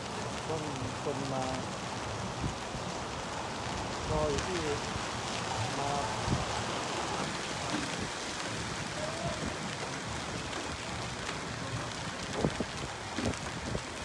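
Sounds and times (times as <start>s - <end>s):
heavy rain hissing: 0.0s - 14.0s
wind: 0.0s - 14.0s.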